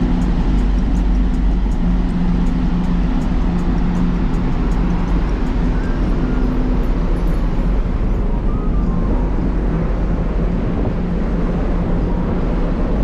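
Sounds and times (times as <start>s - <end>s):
ship engines droning: 0.0s - 13.0s
water rushing noise: 0.0s - 13.0s.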